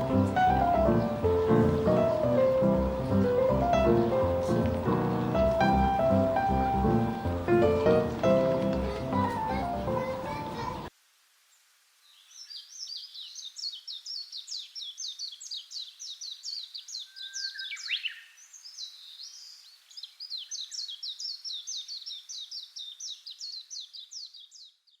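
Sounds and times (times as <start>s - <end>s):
songbird chirping: 0.0s - 10.9s, 11.5s - 25.0s.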